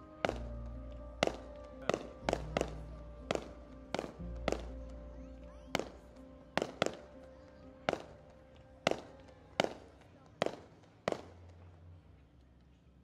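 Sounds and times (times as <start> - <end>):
fireworks bangs: 0.0 - 5.0, 5.7 - 11.8
background music: 0.0 - 12.4.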